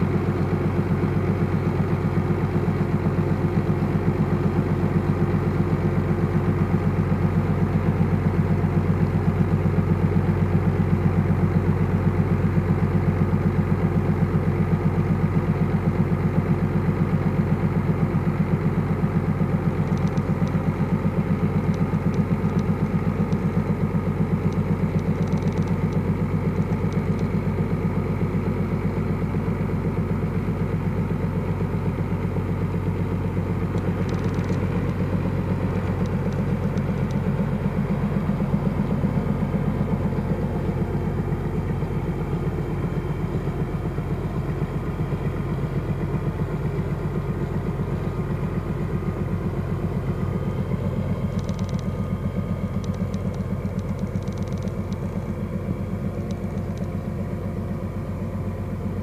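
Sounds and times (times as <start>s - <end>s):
tractor diesel engine idling: 0.0s - 59.0s.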